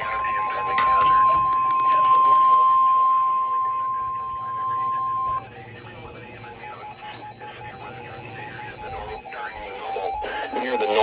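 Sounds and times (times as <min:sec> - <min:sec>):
faint radio sound: 0:00.0 - 0:11.0
high warning alarm tone: 0:00.0 - 0:11.0.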